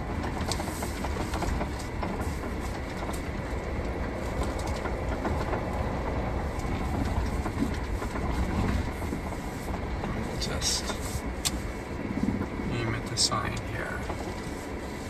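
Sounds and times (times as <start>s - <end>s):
gravel ticking under wheels: 0.0s - 15.0s
van engine and tyres rumbling: 0.0s - 15.0s.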